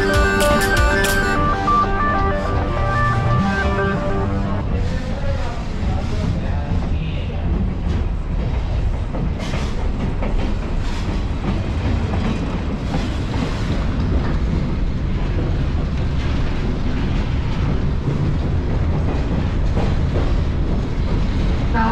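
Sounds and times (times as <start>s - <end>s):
railcar rumbling on track: 0.0s - 21.9s.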